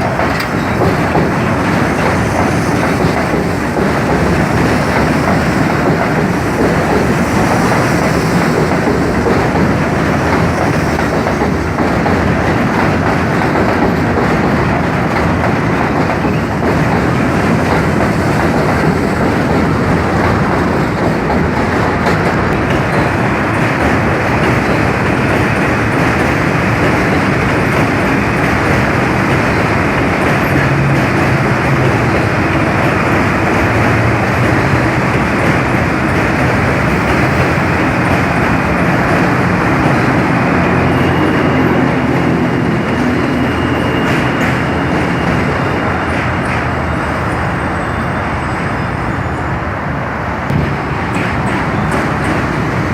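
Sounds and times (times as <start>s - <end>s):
train wheels on rails: 0.0s - 52.9s.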